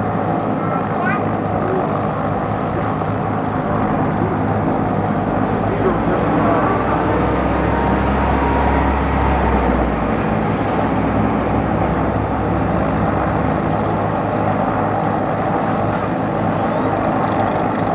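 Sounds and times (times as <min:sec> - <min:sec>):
aircraft piston engines droning: 0:00.1 - 0:17.9.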